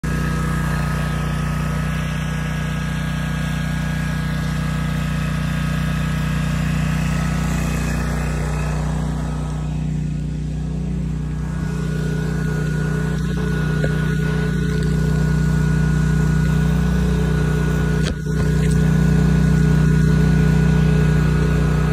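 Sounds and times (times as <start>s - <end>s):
mower engine running steadily: 0.0s - 21.9s.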